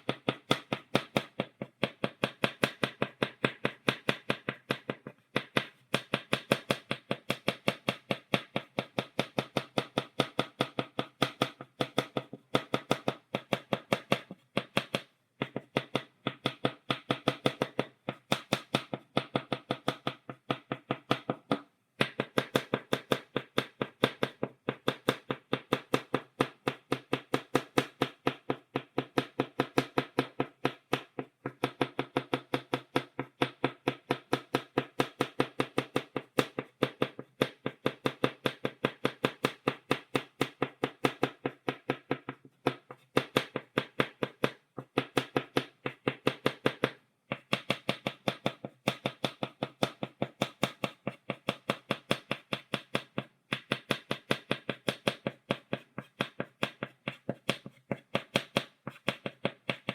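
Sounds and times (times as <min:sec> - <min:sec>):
chalk tapping on blackboard: 0:00.0 - 0:59.9.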